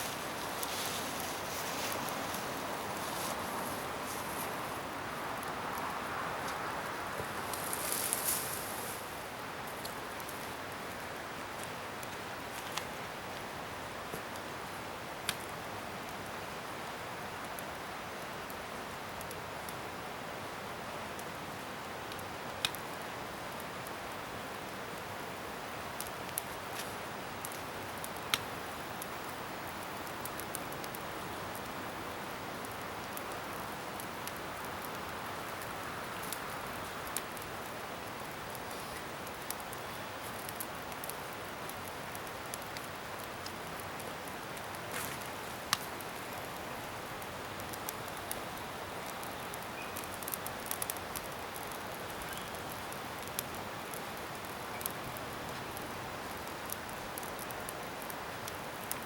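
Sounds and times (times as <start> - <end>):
bonfire hissing: 0.0 - 59.0
fire pops and crackles: 0.0 - 59.0.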